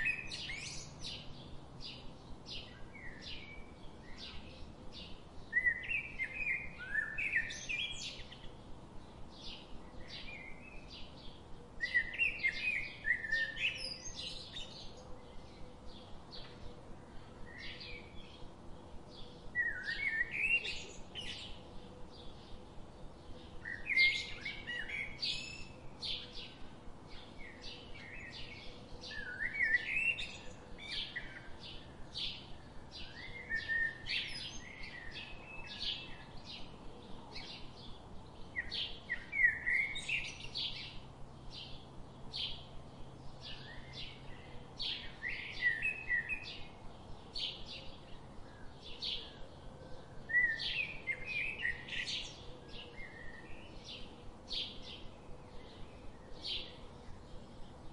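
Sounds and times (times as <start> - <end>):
loud rapid bird song phrase: 0.0 - 57.9
small birds chirping: 0.0 - 57.9.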